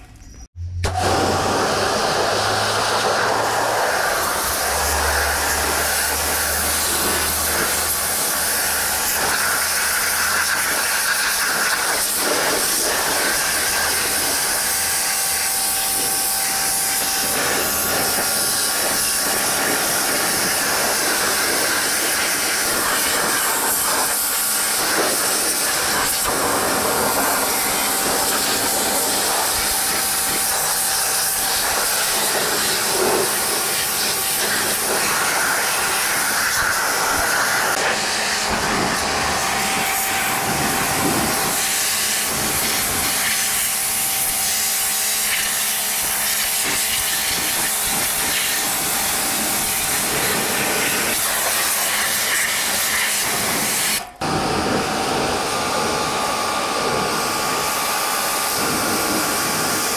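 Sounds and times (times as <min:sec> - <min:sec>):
pressure washer spraying water: 0:00.7 - 0:59.9.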